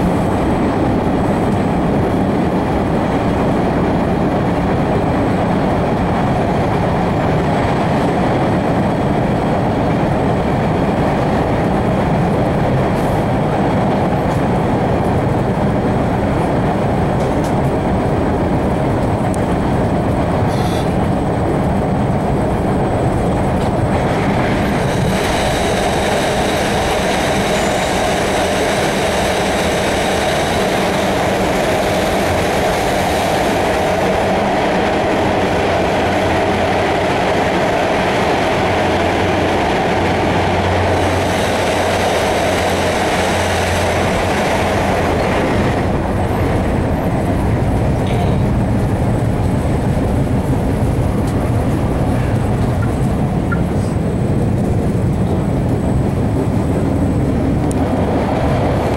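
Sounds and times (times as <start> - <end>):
subway car rumble and rail noise: 0.0 - 58.9.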